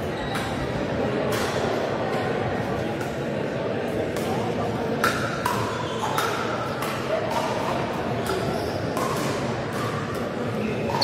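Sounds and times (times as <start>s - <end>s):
murmur of voices: 0.0s - 11.0s.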